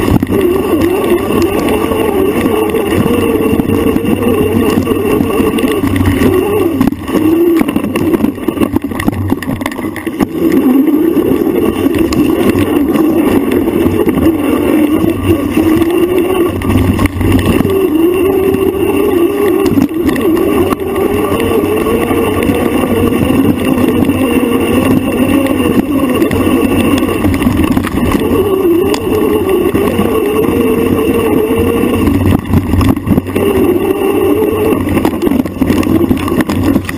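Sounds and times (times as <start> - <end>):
off-road bike motor revving: 0.0 - 36.9.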